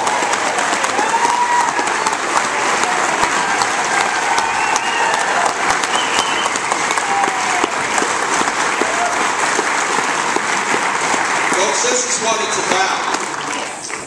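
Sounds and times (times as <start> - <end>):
audience clapping: 0.0 - 14.0.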